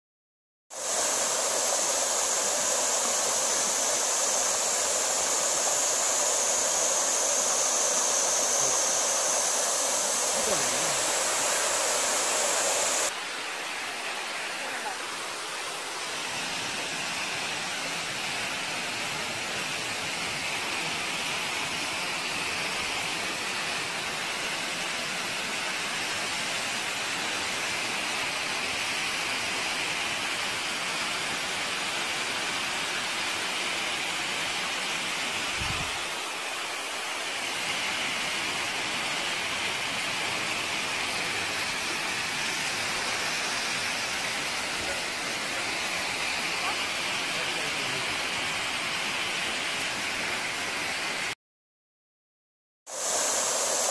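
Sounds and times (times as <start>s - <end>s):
waterfall rushing: 0.7s - 51.4s, 52.9s - 53.9s.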